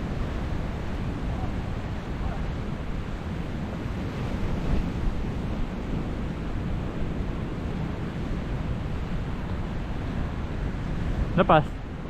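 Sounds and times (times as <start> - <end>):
ocean surf on rocks: 0.0 - 12.0
wind rumbling on microphone: 0.0 - 12.0.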